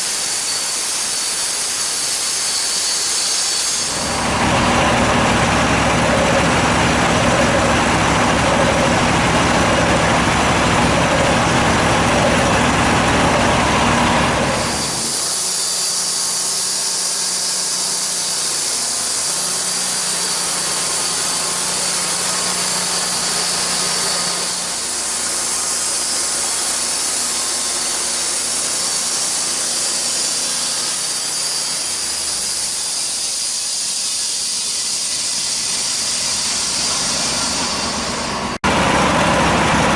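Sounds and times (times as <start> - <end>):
sawmill cutting log: 0.0 - 39.9.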